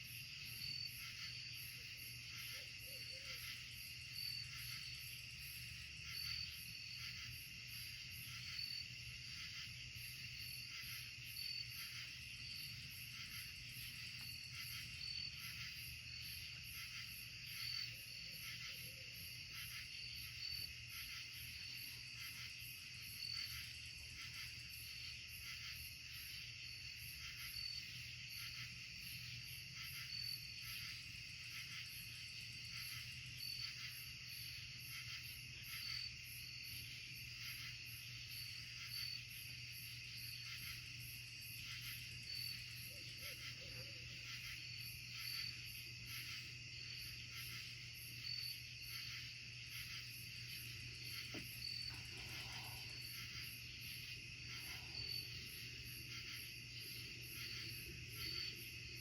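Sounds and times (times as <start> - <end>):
crickets trilling: 0.0 - 59.0
insect chirping: 0.0 - 59.0.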